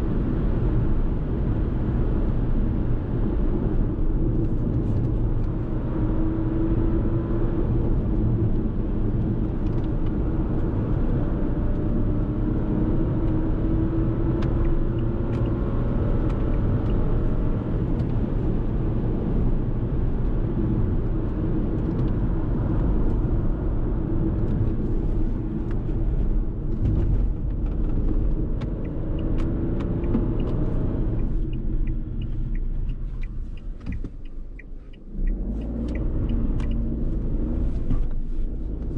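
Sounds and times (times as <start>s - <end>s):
car engine drone: 0.0s - 38.9s
road rumble: 0.0s - 38.9s.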